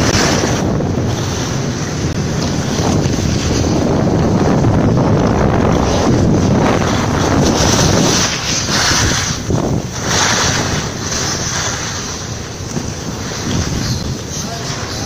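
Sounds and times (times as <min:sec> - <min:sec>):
snowboard edges scraping snow: 0:00.0 - 0:15.0
wind rushing over microphone: 0:00.0 - 0:15.0.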